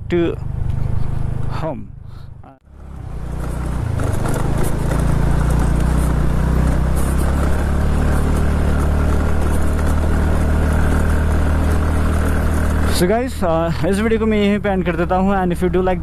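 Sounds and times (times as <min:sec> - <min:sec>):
scooter engine running: 0:02.7 - 0:16.0.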